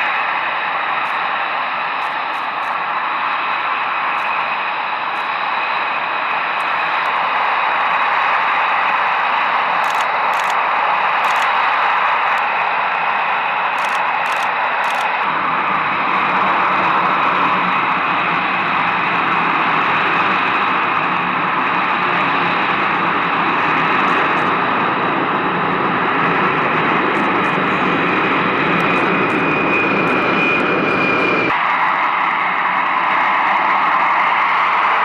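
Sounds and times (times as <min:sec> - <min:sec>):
jet aircraft flying overhead: 0:00.0 - 0:35.0.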